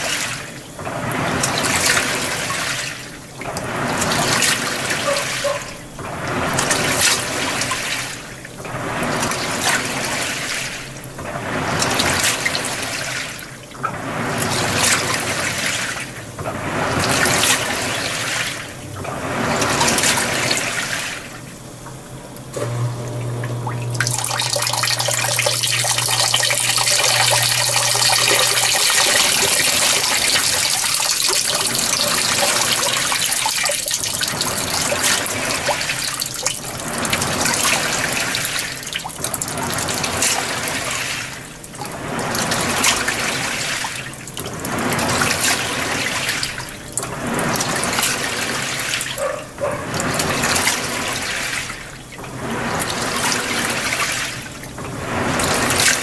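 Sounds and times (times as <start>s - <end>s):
water splashing in washing machine: 0.0s - 56.0s.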